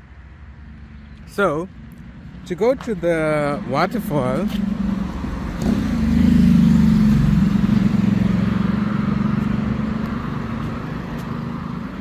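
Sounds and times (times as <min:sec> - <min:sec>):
car engine hum: 0:00.7 - 0:12.0.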